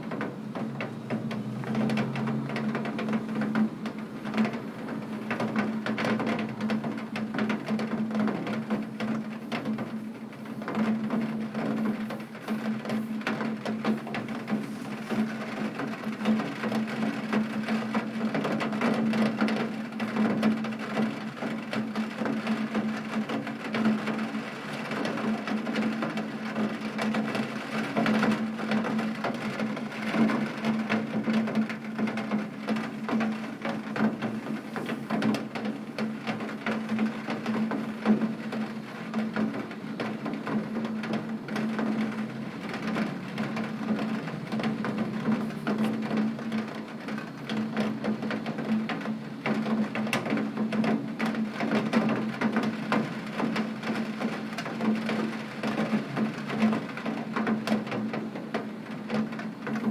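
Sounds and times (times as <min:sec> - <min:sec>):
heavy rain on a window: 0:00.0 - 0:59.9.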